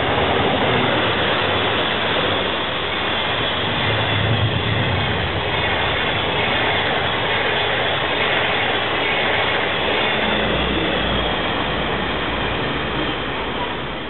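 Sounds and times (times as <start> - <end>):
train rushing past: 0.0 - 14.0.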